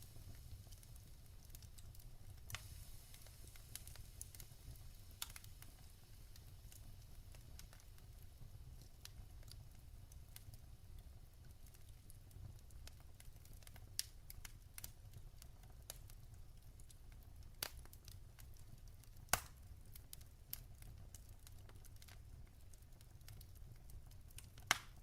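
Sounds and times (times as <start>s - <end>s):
logs crackling and popping: 0.0s - 25.0s.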